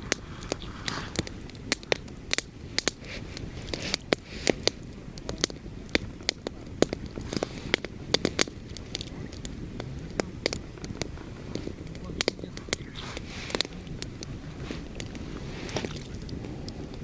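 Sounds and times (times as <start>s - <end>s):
fire crackling and popping: 0.0s - 17.0s
low wind rumble: 0.0s - 17.0s.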